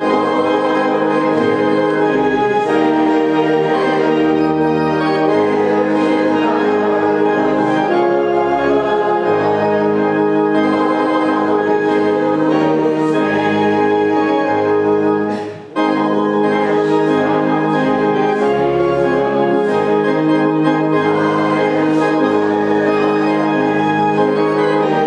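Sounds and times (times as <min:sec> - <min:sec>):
organ playing slow chords: 0:00.0 - 0:25.0.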